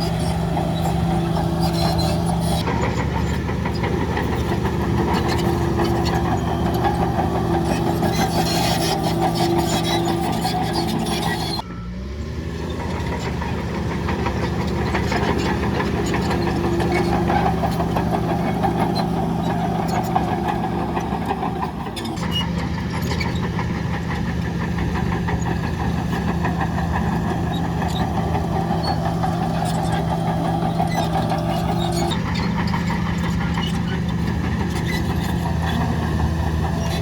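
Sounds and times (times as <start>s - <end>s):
diesel engine of heavy machinery: 0.0s - 37.0s.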